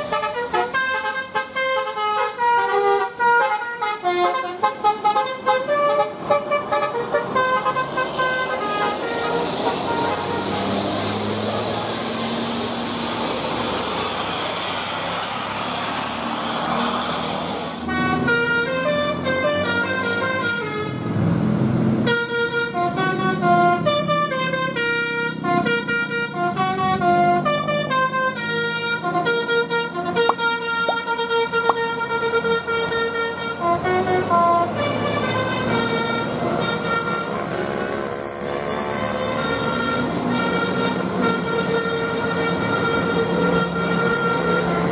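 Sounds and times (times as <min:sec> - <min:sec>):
bus air horn melody: 0:00.0 - 0:11.8, 0:17.8 - 0:21.2, 0:22.0 - 0:44.9
bus engine and road noise: 0:00.0 - 0:44.9.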